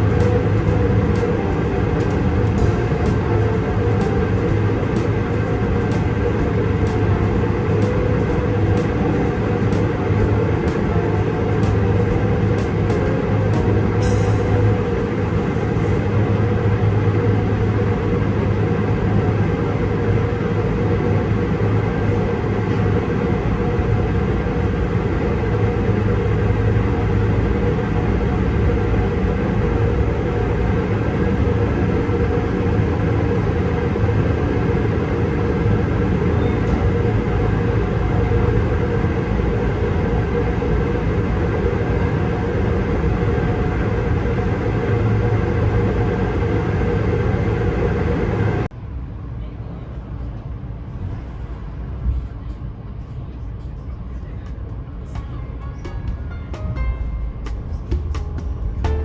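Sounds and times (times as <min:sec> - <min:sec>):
low engine rumble with hum: 0:00.0 - 0:48.7.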